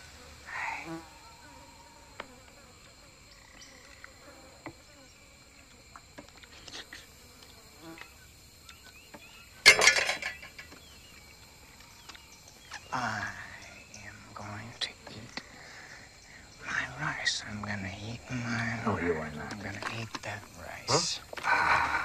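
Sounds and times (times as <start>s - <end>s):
insect chorus droning: 0.0s - 22.0s.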